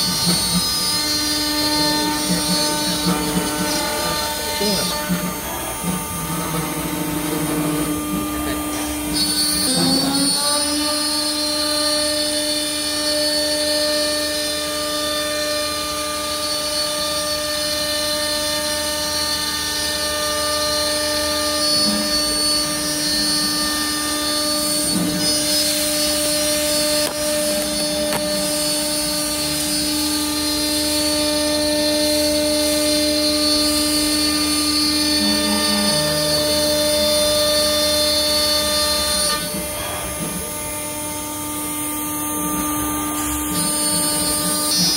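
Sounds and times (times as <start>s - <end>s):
router spindle whining: 0.0s - 44.9s.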